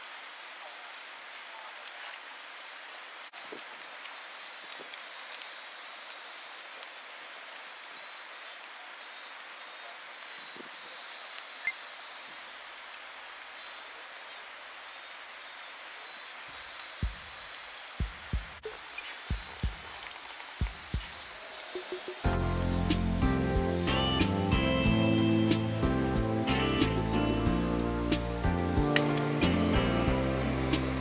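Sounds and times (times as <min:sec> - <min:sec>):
even hiss: 0:00.0 - 0:31.0
high-pitched insect chorus: 0:00.0 - 0:31.0.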